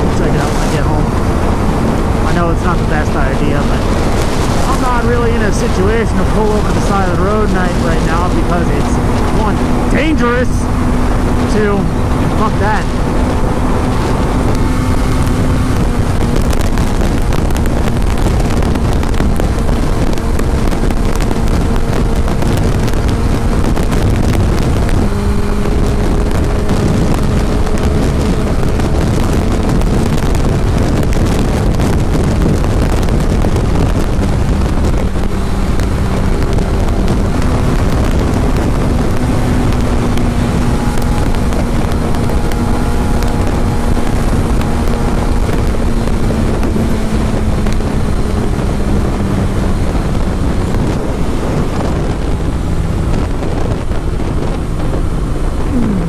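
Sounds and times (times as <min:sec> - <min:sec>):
motorcycle engine drone: 0:00.0 - 0:56.0
wind noise on microphone: 0:00.0 - 0:56.0.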